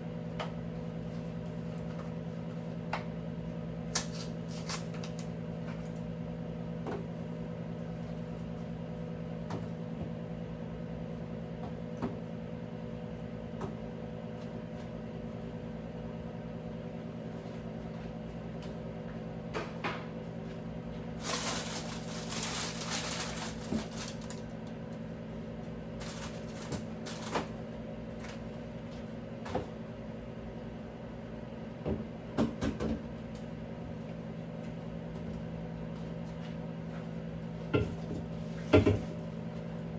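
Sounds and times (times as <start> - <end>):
steady electrical hum: 0.0 - 39.9.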